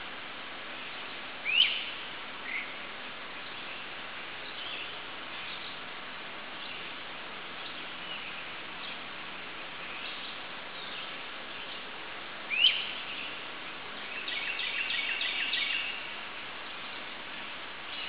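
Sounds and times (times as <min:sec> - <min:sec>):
steady background hiss: 0:00.0 - 0:18.0
songbirds calling: 0:00.6 - 0:18.0.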